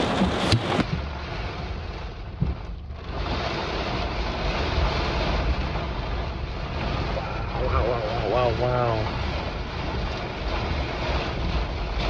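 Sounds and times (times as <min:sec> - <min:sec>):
gusting storm wind: 0:00.0 - 0:12.0
heavy rain on a car: 0:00.0 - 0:12.0.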